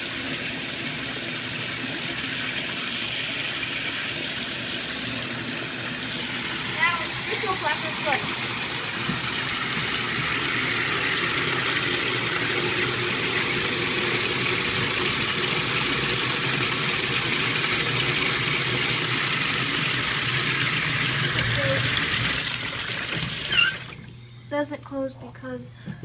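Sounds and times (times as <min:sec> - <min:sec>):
water rushing in toilet tank: 0:00.0 - 0:24.2.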